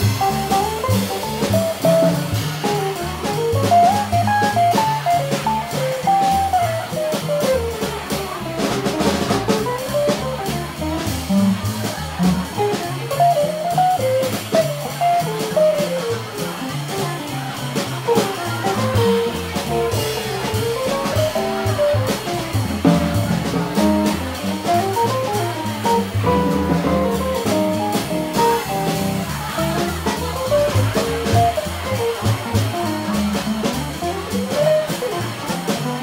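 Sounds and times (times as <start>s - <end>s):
jazz guitar single-note lines: 0.0s - 11.6s, 12.2s - 36.0s
drum kit played with sticks: 0.0s - 36.0s
upright bass: 0.0s - 36.0s.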